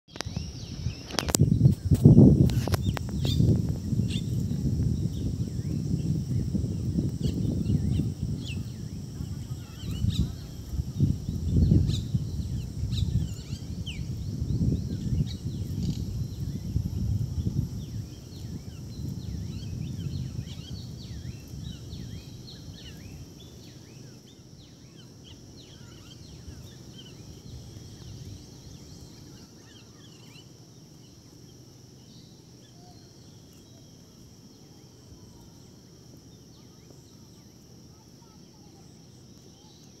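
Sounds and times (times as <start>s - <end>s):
small birds chirping: 0.1s - 40.0s
steady high hiss: 0.1s - 40.0s.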